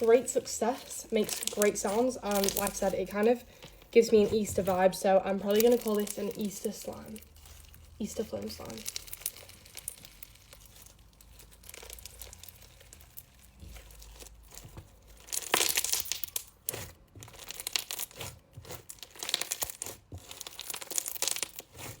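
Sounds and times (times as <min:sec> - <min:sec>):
slime crackling and popping: 0:00.0 - 0:22.0.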